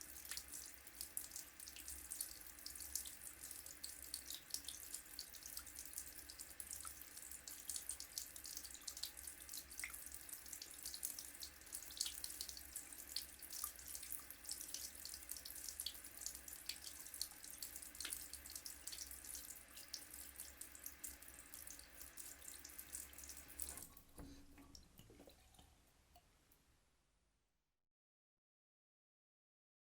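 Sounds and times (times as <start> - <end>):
water running from a tap: 0.0 - 24.3.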